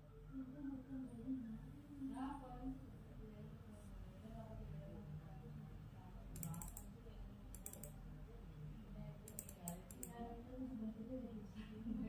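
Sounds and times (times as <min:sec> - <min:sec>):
faint low room hum: 0:00.0 - 0:12.0.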